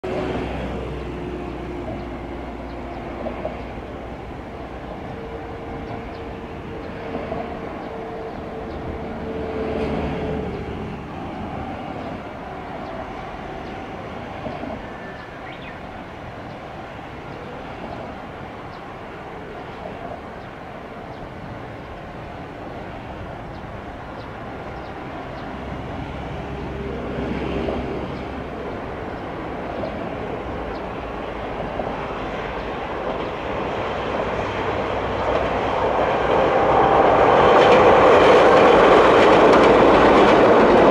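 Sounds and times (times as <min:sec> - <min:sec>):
distant electric train rumble: 0:00.0 - 0:40.9.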